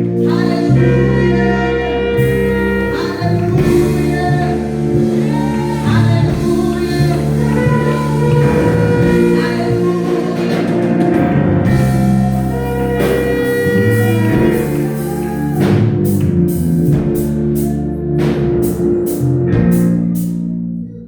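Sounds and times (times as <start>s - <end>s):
gospel band playing: 0.0s - 21.0s.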